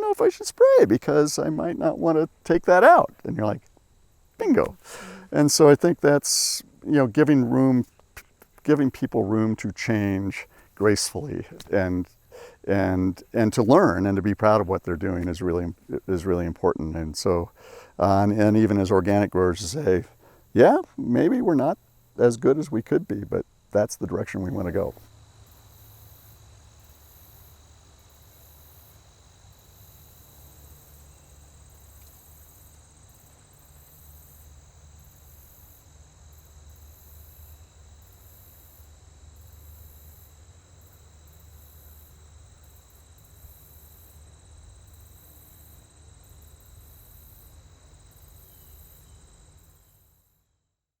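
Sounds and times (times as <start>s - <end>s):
insects chirping: 0.0s - 50.4s.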